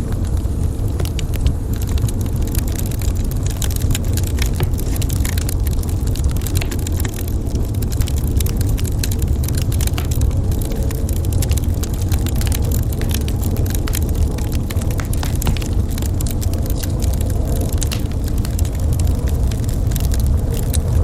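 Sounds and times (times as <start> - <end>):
low fire rumble: 0.0 - 21.0
wood fire crackling and popping: 0.0 - 21.0.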